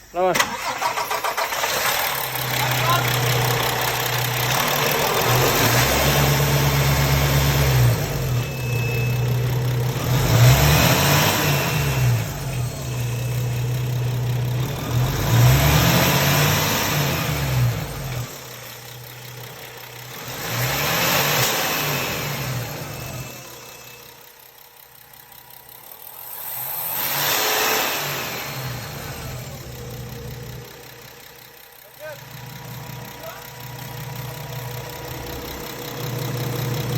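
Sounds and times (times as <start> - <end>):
diesel truck engine revving: 0.0 - 24.0, 26.1 - 36.9.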